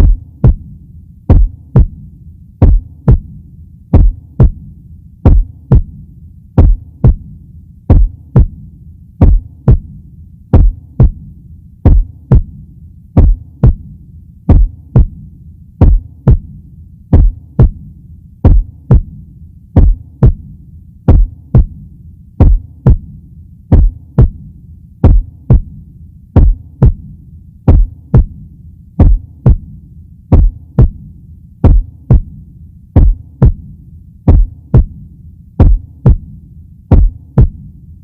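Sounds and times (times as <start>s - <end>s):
heartbeat: 0.0s - 12.6s, 13.2s - 19.2s, 19.8s - 25.8s, 26.4s - 32.4s, 33.0s - 37.8s
low steady hum: 0.0s - 38.0s.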